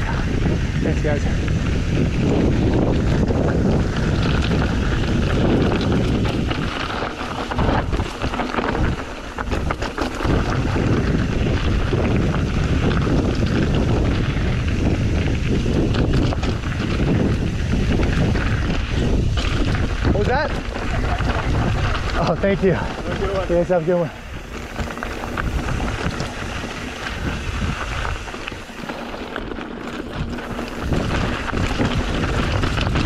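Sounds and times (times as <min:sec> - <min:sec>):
bike knocking and rattling over rocks: 0:00.0 - 0:33.0
tyres rumbling on dirt: 0:00.0 - 0:33.0
wind buffeting microphone: 0:00.0 - 0:33.0.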